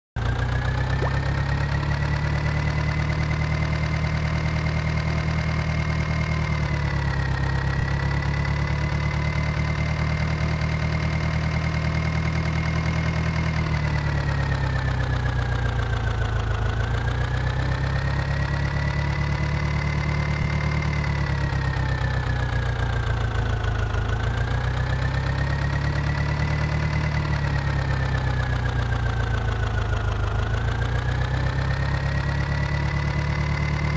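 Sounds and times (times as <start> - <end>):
tractor engine running: 0.2 - 33.9.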